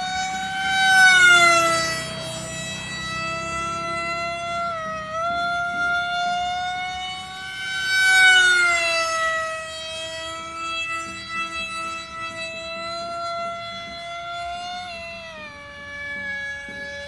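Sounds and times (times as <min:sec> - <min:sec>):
model jet flying overhead: 0:00.0 - 0:17.0.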